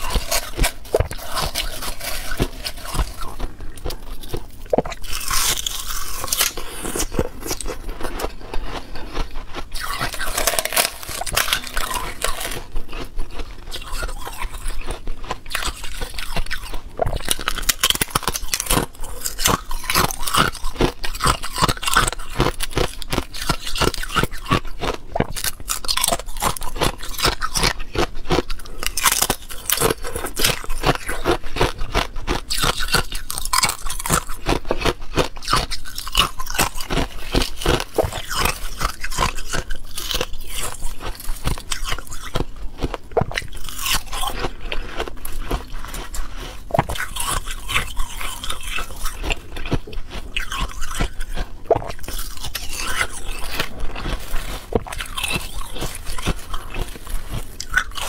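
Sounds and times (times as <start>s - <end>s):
ice crunching and crackling: 0.0s - 27.7s, 32.5s - 58.0s.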